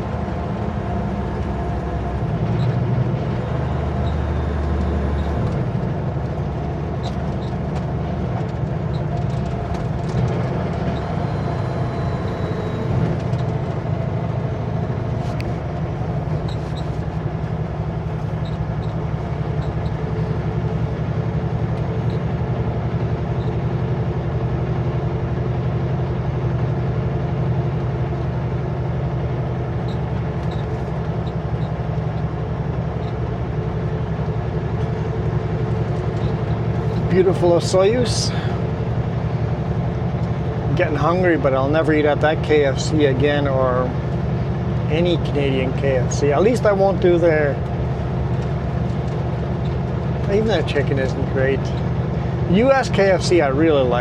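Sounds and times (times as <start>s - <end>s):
road noise: 0.0s - 54.0s
truck diesel engine cruising: 0.0s - 54.0s.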